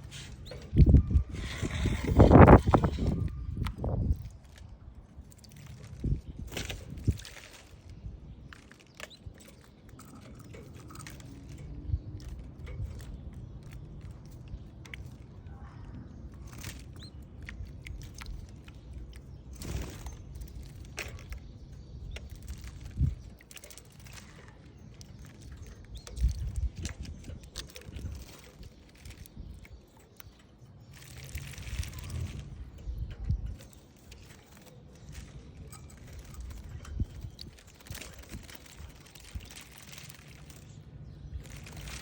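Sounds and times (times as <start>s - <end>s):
birds bathing clicks and taps: 0.0s - 42.0s.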